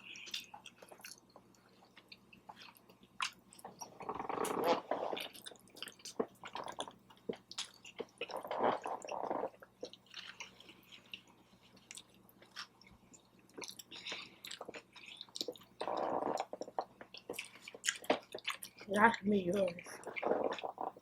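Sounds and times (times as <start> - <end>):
person chewing food: 0.0 - 18.9, 19.6 - 21.0.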